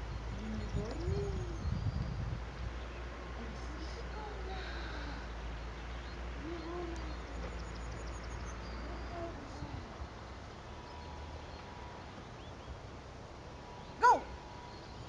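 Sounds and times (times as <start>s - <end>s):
wind rumble on microphone: 0.0s - 13.6s.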